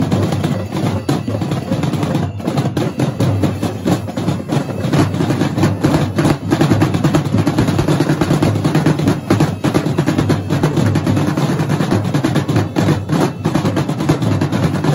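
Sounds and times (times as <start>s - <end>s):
snare drum strokes and rolls: 0.0s - 14.9s.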